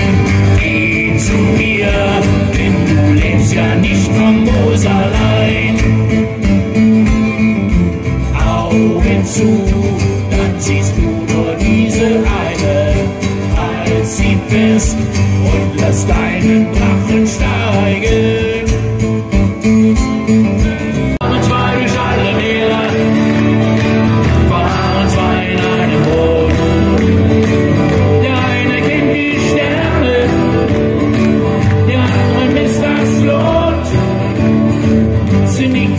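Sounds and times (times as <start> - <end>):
person singing: 0.0 - 6.4, 8.3 - 19.0, 20.5 - 34.4
strummed acoustic guitar: 0.0 - 35.9.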